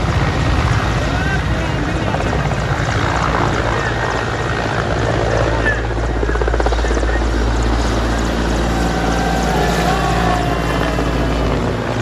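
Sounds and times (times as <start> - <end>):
helicopter rotors and engine: 0.0 - 12.0.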